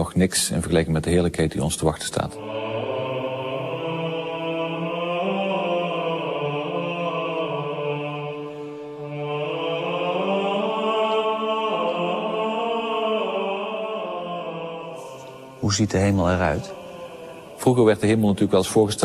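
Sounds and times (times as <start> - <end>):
choir singing long notes: 2.0 - 19.0.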